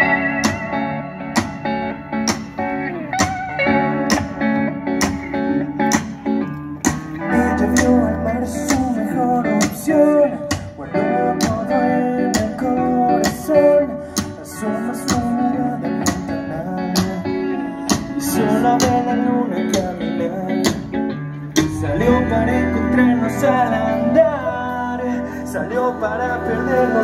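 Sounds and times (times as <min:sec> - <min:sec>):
bass guitar: 0:00.0 - 0:27.0
electric guitars: 0:00.0 - 0:27.0.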